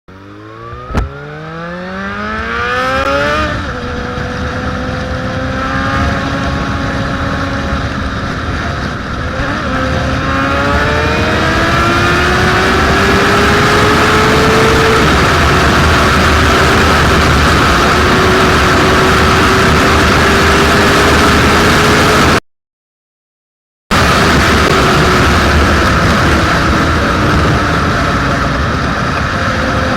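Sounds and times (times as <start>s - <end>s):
motorcycle engine accelerating: 0.1s - 22.4s, 23.9s - 29.9s
rushing wind noise: 0.1s - 22.4s, 23.9s - 29.9s.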